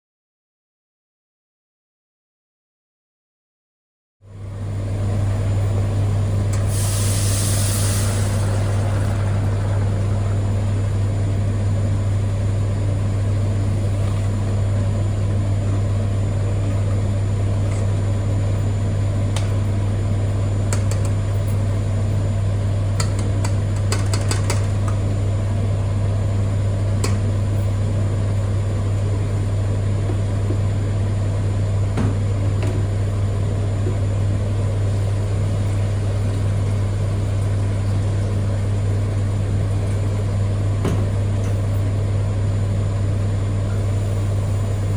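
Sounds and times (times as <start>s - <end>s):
appliance electrical hum: 4.2s - 44.9s.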